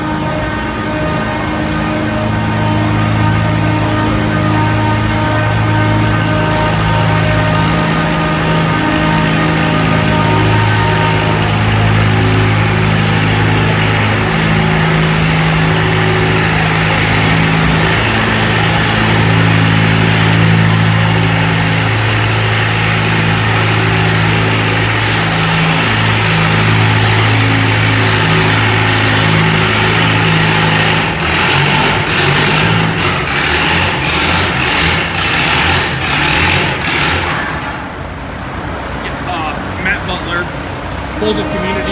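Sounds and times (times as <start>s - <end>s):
engine sharp cracks: 0.0s - 41.9s
tractor engine under load: 0.0s - 41.9s.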